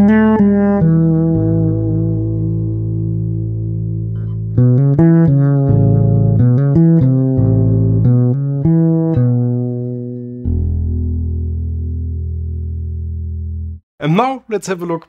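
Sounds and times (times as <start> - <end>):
fretless electric bass melody: 0.0 - 13.8.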